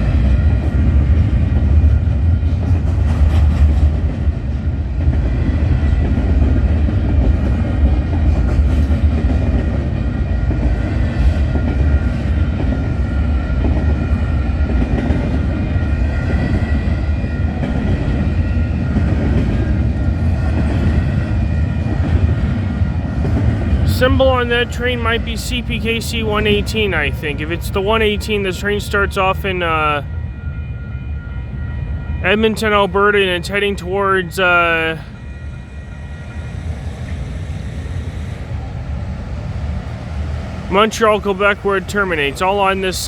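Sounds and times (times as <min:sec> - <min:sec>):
freight train rumbling: 0:00.0 - 0:43.0.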